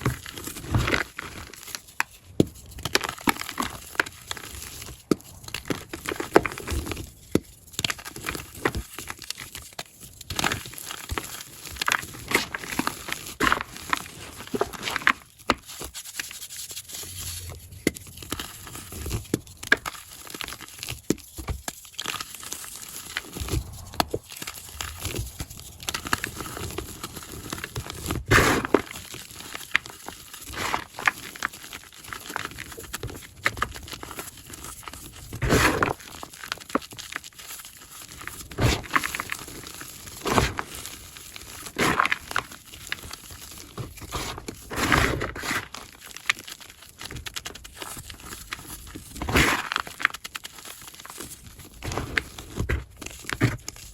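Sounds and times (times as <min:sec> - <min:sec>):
chalk being crushed by hand: 0:00.0 - 0:53.9.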